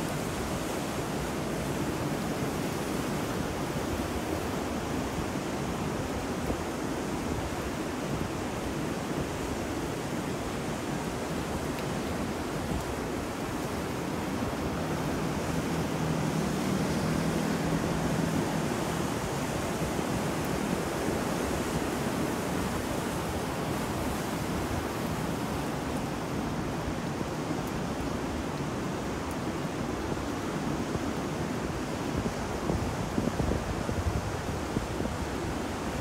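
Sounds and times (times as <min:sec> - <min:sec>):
ocean surf: 0:00.0 - 0:36.0
wind: 0:00.0 - 0:36.0.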